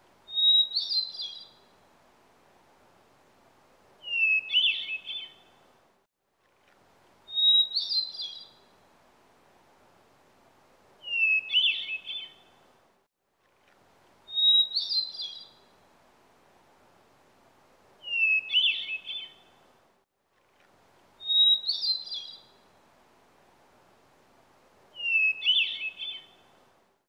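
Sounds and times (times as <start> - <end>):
faint hiss: 0.0 - 27.0.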